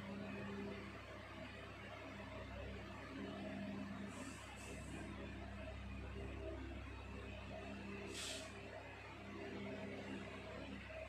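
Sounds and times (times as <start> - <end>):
steady low room hum: 0.0 - 11.0.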